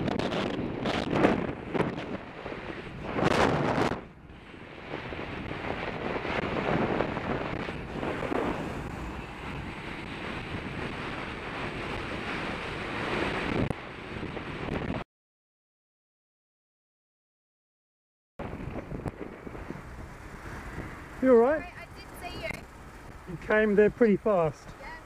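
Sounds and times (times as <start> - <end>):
bicycle road noise: 0.0 - 15.0, 18.4 - 25.0
wind rushing over microphone: 0.0 - 15.0, 18.4 - 25.0.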